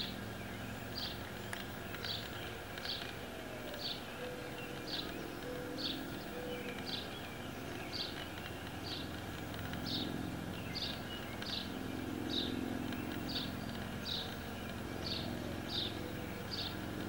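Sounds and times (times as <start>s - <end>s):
woodpecker calling: 0.0s - 17.0s.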